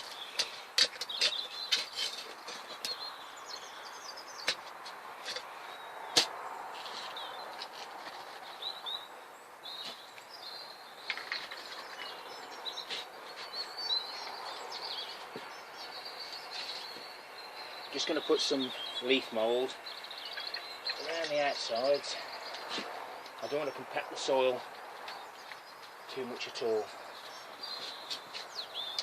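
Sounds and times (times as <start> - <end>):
outdoor background noise: 0.0 - 29.0
small birds chirping: 0.0 - 29.0.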